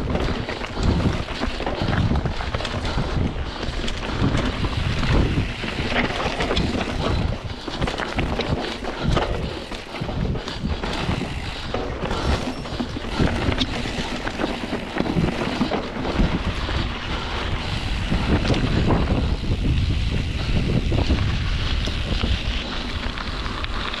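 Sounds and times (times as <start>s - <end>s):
bike knocking and rattling over rocks: 0.0s - 24.0s
bike tyre noise: 0.0s - 24.0s
wind rushing over microphone: 0.0s - 24.0s.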